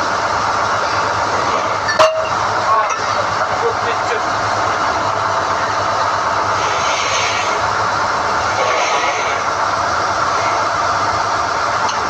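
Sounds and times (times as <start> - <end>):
drilling rig running: 0.0 - 12.0.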